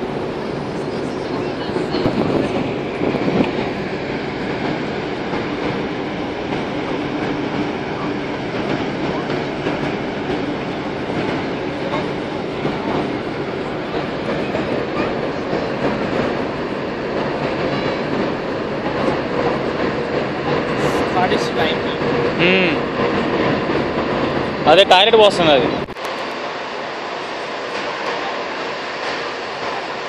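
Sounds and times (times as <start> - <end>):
ship engine drone: 0.0 - 30.0
wind: 0.0 - 30.0.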